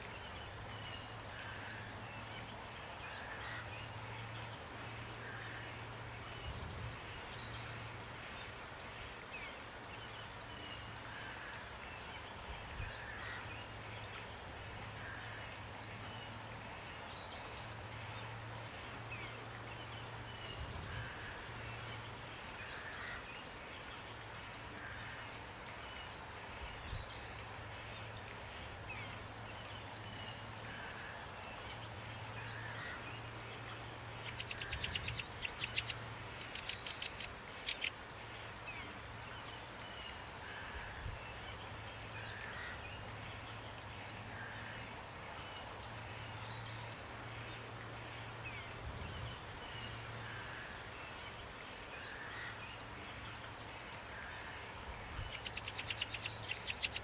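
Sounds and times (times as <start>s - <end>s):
rain falling: 0.0s - 57.0s
songbirds chirping and trilling: 0.0s - 57.0s.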